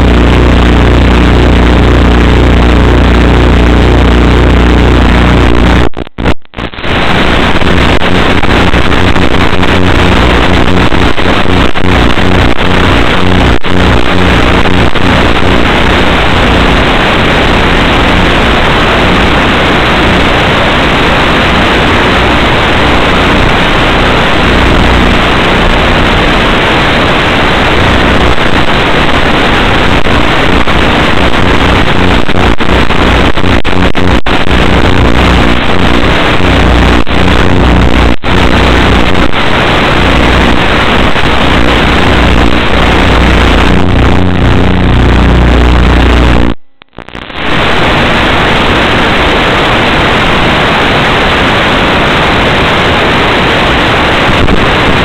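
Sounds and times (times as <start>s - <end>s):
low hum: 0.0s - 26.6s, 27.5s - 47.4s
loud steady hiss: 0.0s - 55.0s.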